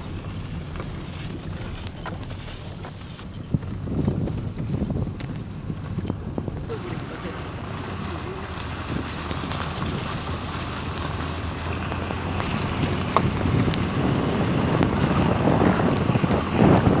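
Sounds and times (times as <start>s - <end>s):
low vehicle rumble: 0.0s - 17.0s
wind rushing over microphone: 0.0s - 17.0s.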